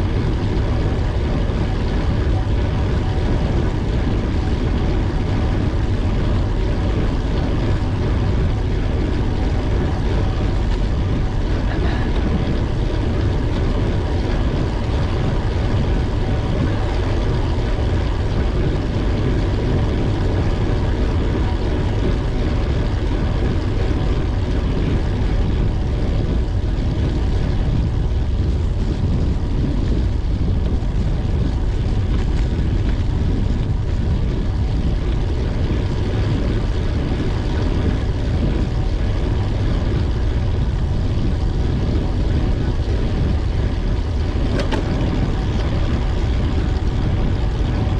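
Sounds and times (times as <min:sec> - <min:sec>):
faint steady whine: 0:00.0 - 0:47.9
road rumble: 0:00.0 - 0:47.9
wind rushing over microphone: 0:00.0 - 0:47.9.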